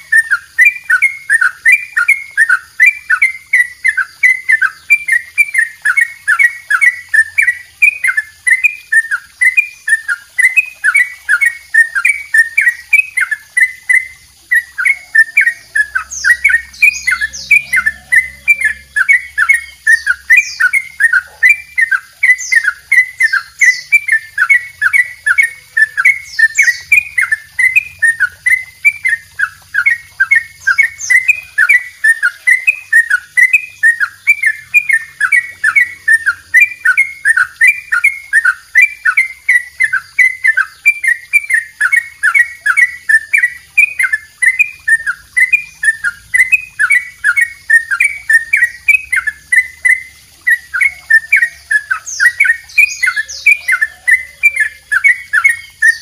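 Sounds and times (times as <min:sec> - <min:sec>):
bird singing downward-sweeping chirps: 0:00.0 - 0:56.0.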